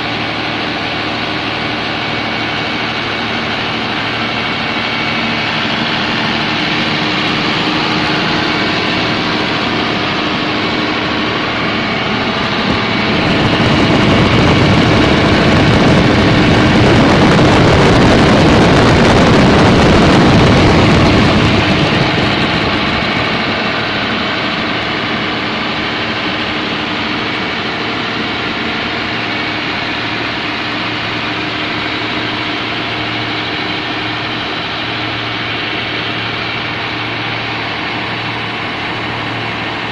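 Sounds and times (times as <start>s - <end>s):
broad rushing noise: 0.0s - 39.9s
diesel generator running: 0.0s - 39.9s.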